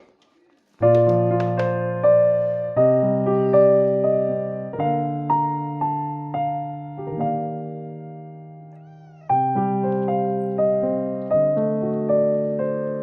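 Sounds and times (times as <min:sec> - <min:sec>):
gentle piano melody: 0:00.8 - 0:13.0.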